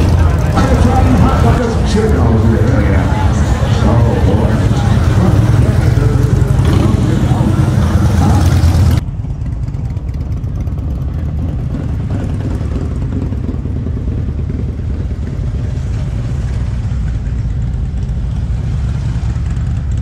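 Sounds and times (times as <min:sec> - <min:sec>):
motorcycles rumbling past: 0:00.0 - 0:20.0.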